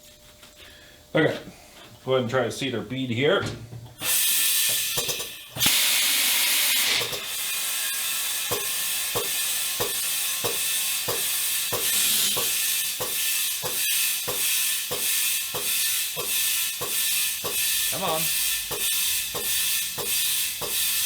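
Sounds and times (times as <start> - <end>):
compressed air hissing: 4.0 - 21.0.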